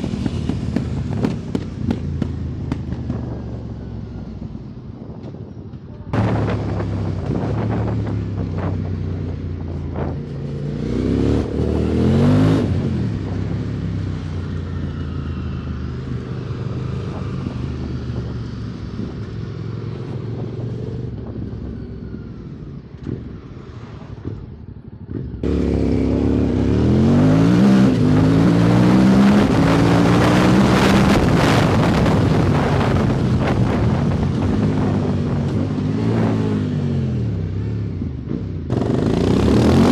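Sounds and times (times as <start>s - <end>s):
motorcycle engine revving: 0.0s - 4.2s, 6.1s - 39.9s.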